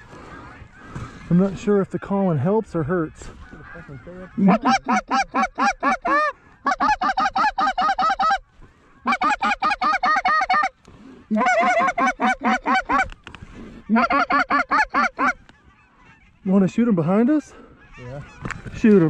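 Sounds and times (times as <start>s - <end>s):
goose call clucks: 3.2s - 19.0s.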